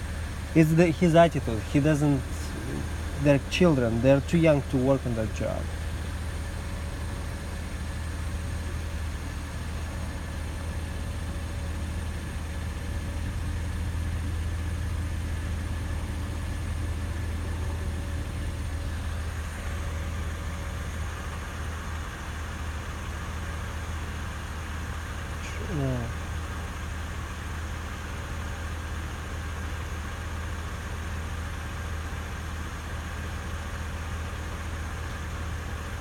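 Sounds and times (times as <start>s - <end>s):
vehicle engine idling: 0.0s - 36.0s.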